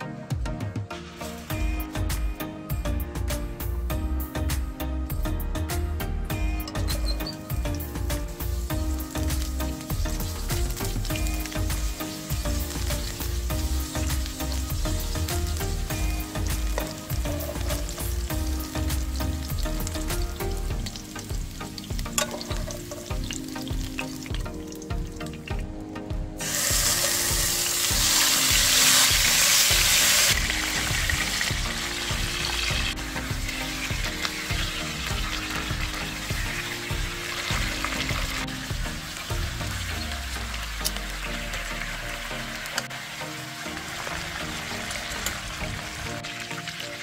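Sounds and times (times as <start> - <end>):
background music with a beat: 0.0 - 47.0
oil sizzling in a frying pan: 1.0 - 2.8, 6.6 - 47.0.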